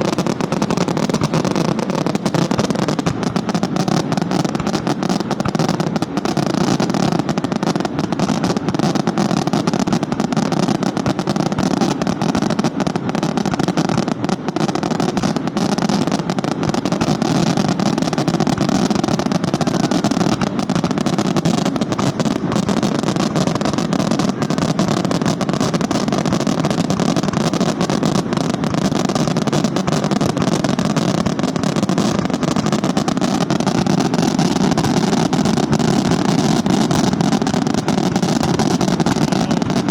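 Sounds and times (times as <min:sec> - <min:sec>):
fireworks exploding with crackle: 0:00.0 - 0:39.9.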